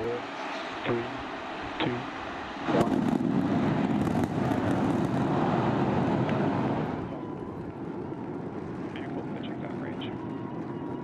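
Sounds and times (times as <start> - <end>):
rumbling rocket engines: 0.0 - 11.0.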